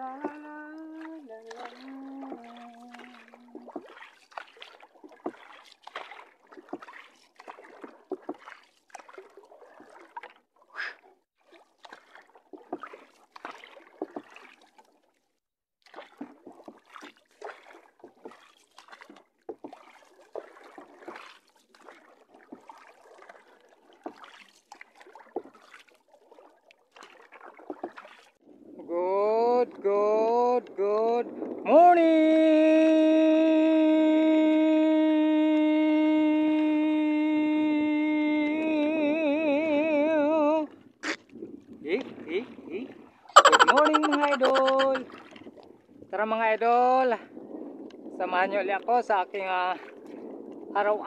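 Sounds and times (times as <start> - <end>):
paddle splashing: 0.0 - 51.0
water sloshing along hull: 0.0 - 51.0.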